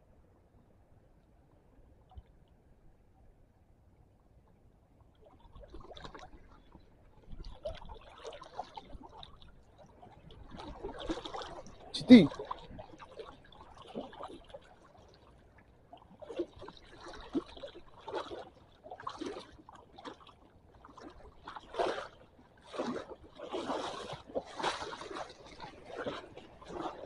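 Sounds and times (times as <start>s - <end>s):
shallow seawater splashing: 5.2s - 27.0s.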